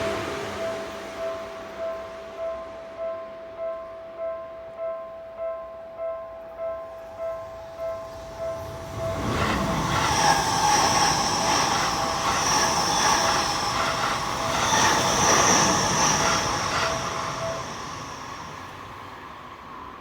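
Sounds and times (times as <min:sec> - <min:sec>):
electric train passing: 0:00.0 - 0:05.4, 0:06.2 - 0:20.0.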